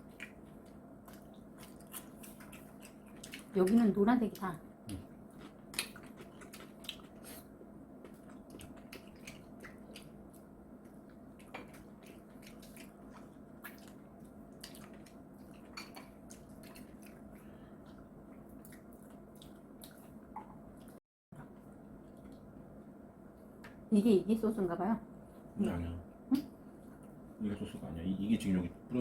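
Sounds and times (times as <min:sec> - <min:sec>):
faint chewing with small clicks: 0:00.0 - 0:23.8
steady low hum: 0:00.0 - 0:29.0.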